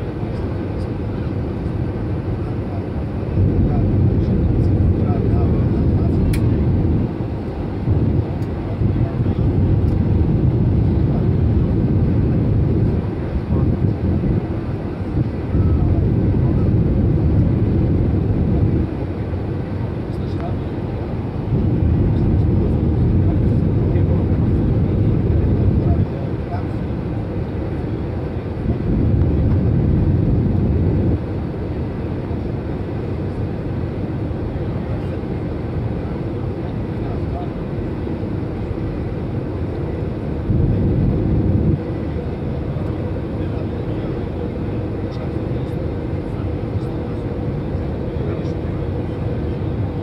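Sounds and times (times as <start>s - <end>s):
jet engine rumble and rushing air: 0.0s - 50.0s.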